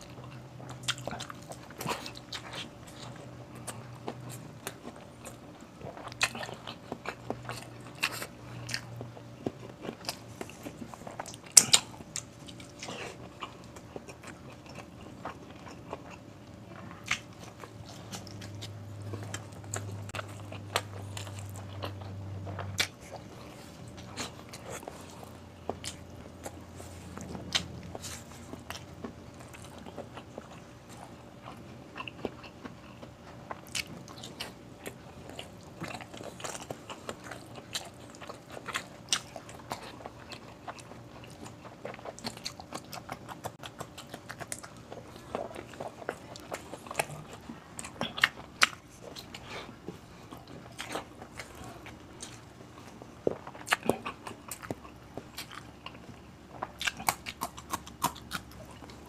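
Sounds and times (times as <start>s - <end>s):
person chewing and lip smacking: 0.0s - 59.0s.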